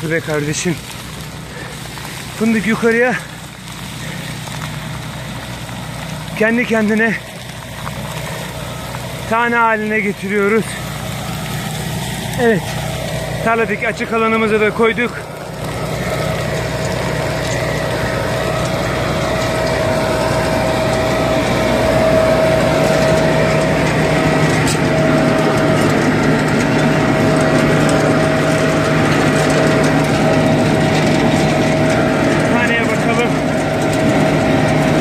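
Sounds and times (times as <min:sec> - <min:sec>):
harvester machine drone: 0:00.0 - 0:35.0
steady mechanical whine: 0:00.0 - 0:35.0.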